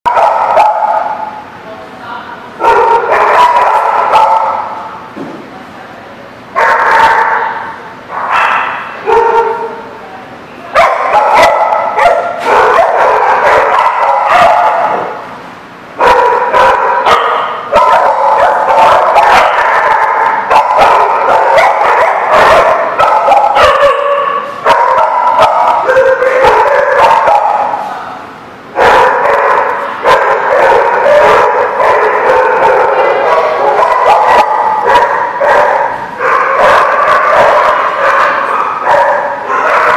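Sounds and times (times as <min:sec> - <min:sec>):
dogs barking and yipping: 0:00.1 - 0:01.4, 0:02.6 - 0:05.0, 0:06.6 - 0:09.8, 0:10.8 - 0:15.3, 0:16.0 - 0:27.9, 0:28.8 - 0:39.9.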